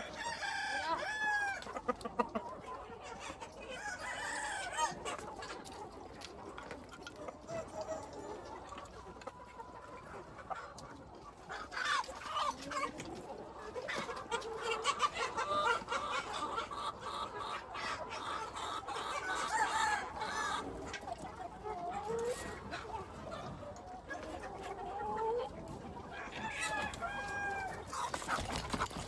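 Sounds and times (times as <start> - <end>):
chickens clucking and calling: 0.0 - 29.0.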